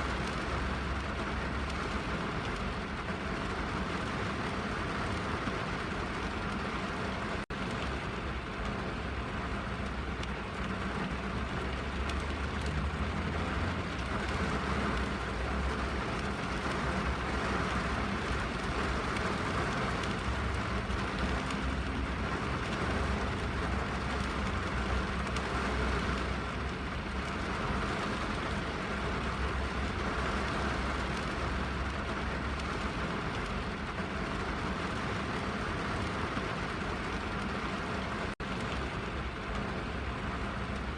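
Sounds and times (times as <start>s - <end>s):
rain drumming on car roof: 0.0s - 40.9s.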